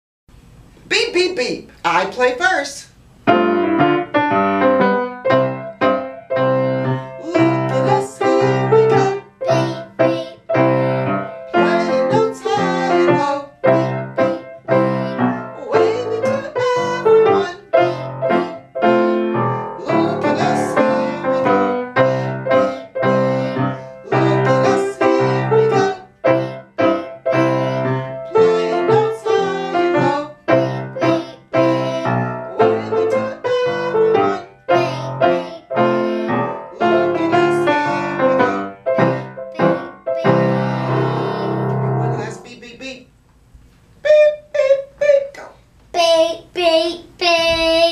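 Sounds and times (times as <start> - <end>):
piano melody with chords: 3.2 - 42.8.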